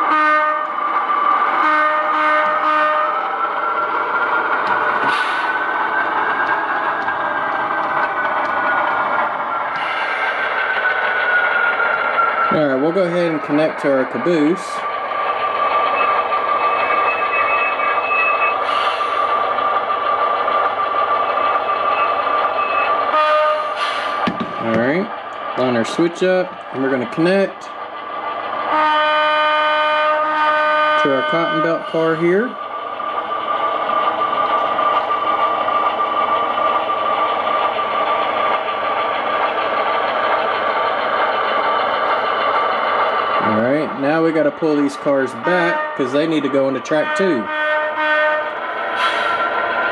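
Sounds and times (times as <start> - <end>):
model train running with whine: 0.0 - 23.8, 24.6 - 49.9.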